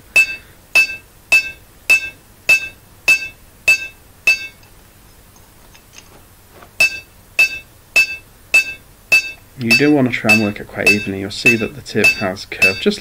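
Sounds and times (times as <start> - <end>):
hammer clanging on anvil: 0.2 - 4.6, 6.8 - 13.0.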